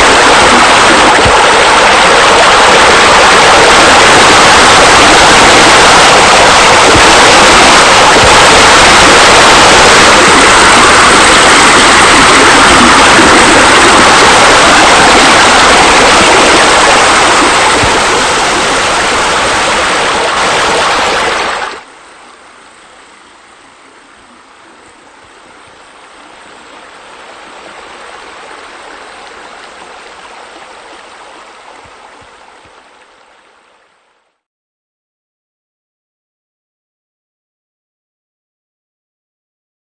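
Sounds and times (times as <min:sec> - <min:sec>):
rushing water: 0:00.0 - 0:34.2.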